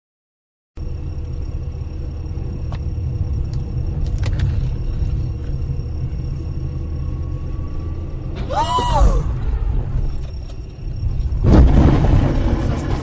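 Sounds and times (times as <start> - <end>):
car road and engine rumble: 0.8 - 13.0.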